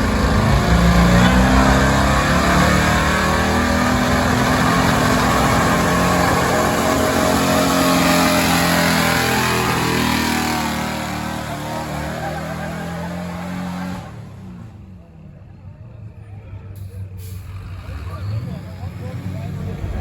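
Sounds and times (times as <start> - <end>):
truck engine at high revs: 0.0 - 14.8, 16.8 - 20.0.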